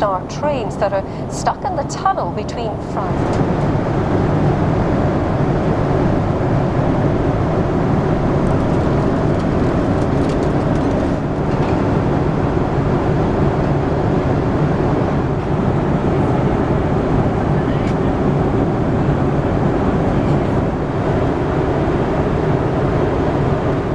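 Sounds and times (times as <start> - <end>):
airplane cabin engine hum: 0.0 - 23.9.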